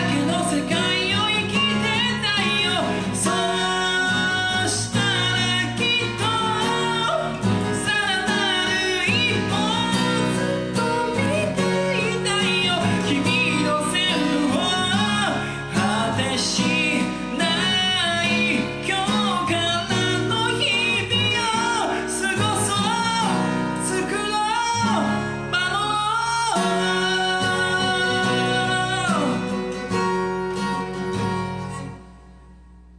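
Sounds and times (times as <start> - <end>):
person singing rock song: 0.0 - 30.0
guitar playing: 0.0 - 32.9.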